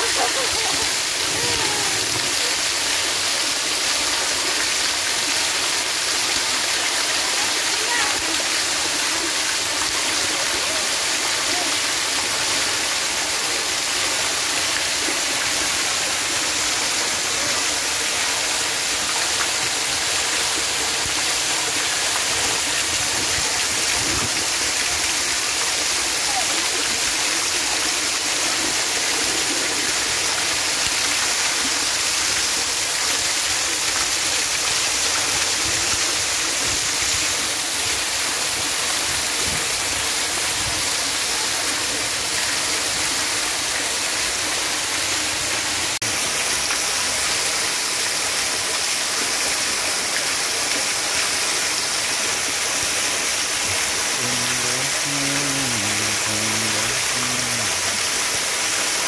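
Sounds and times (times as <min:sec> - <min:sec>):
fountain water splashing on pool: 0:00.0 - 0:59.0.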